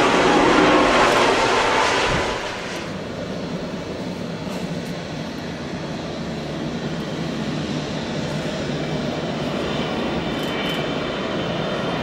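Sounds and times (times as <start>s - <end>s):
jet airliner engine noise: 0.0s - 12.0s.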